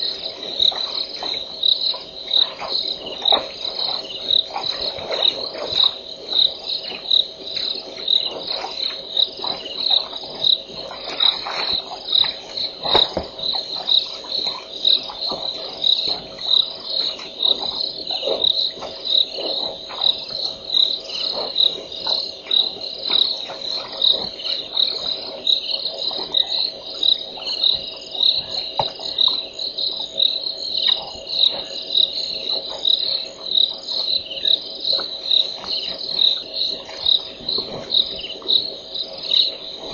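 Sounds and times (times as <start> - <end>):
crickets chirping: 0.0 - 39.9
frogs calling: 0.0 - 39.9.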